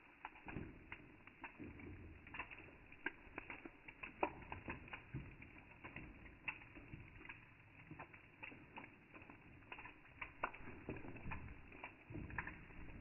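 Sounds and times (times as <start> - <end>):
water drops ticking: 0.1 - 13.0.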